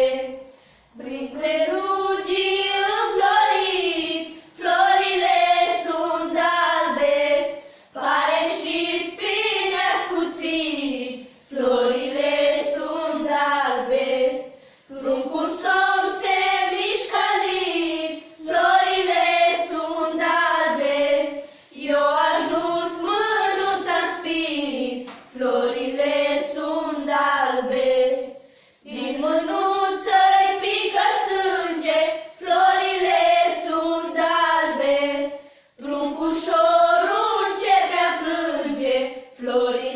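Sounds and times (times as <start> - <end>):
girls singing a carol: 0.0 - 39.9.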